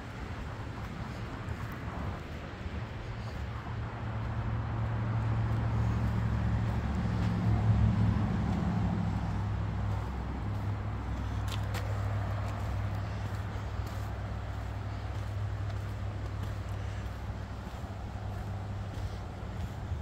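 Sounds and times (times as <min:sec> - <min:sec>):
traffic rumble: 0:00.0 - 0:20.0
vehicle passing: 0:00.0 - 0:20.0.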